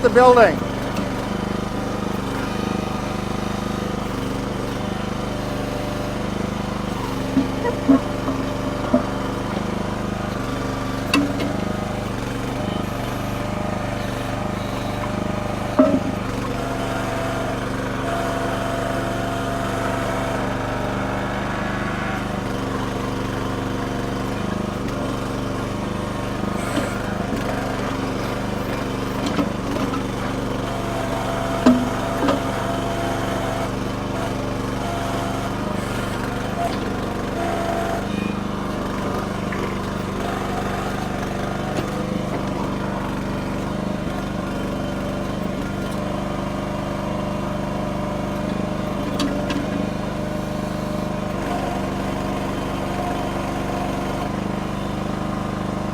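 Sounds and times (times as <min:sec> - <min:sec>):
small engine running under load: 0:00.0 - 0:55.9.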